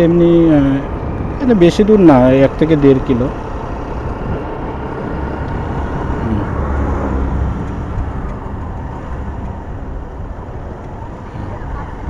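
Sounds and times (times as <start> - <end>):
motorcycle engine and road rumble: 0.0 - 12.0
wind noise: 0.0 - 12.0.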